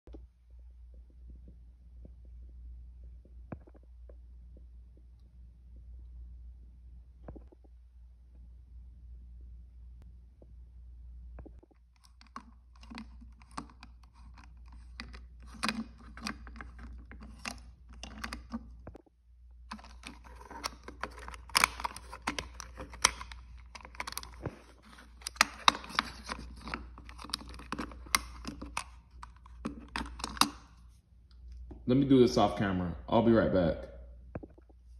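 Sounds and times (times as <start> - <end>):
low hum: 0.1 - 31.9.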